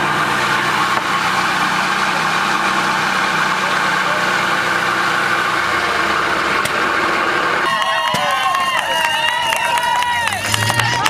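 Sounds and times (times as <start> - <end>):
sawmill engine running: 0.0 - 11.0.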